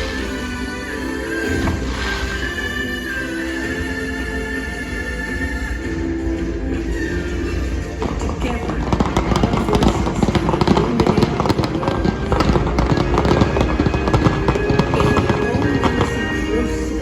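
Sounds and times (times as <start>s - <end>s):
fireworks crackling and popping: 0.0s - 3.0s, 6.0s - 17.0s
music from loudspeakers: 0.0s - 17.0s.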